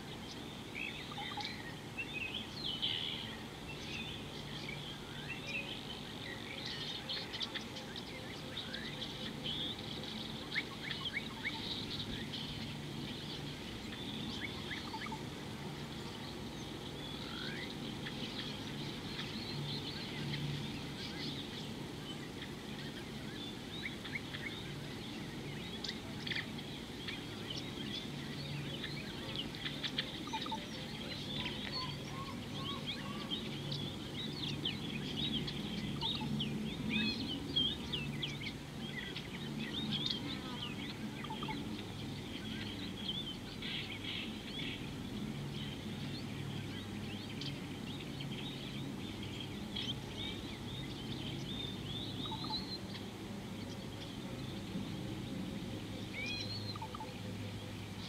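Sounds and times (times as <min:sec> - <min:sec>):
birds chirping: 0:00.0 - 0:58.0
steady low hum: 0:00.0 - 0:58.0.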